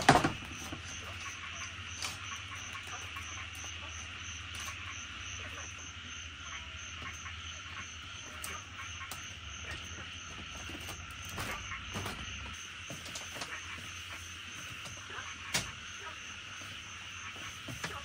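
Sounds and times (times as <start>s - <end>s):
insects and frogs chorus: 0.0s - 18.0s.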